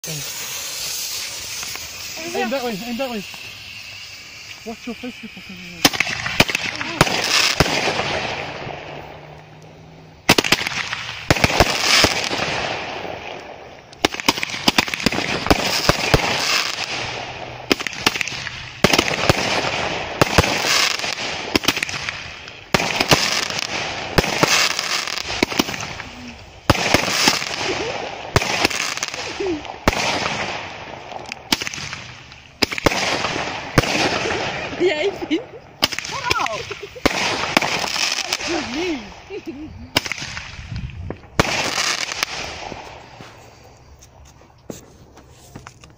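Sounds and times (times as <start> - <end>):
fireworks hissing and crackling: 0.0 - 45.9.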